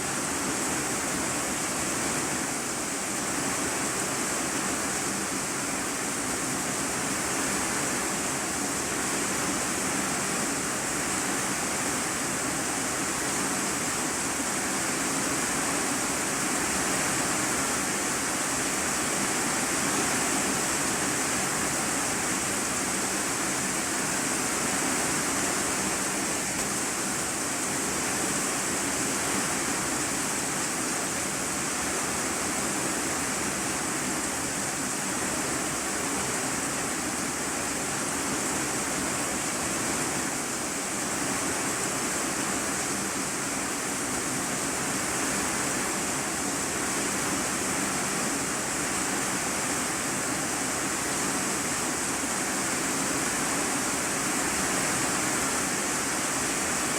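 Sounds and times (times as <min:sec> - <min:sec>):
heavy rain on a metal roof: 0:00.0 - 0:56.9.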